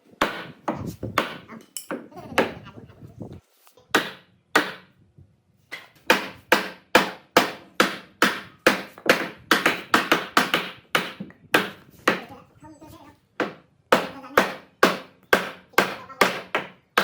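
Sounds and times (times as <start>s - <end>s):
hammering on wood: 0.2s - 2.6s, 3.9s - 4.9s, 5.7s - 12.3s, 13.4s - 17.0s.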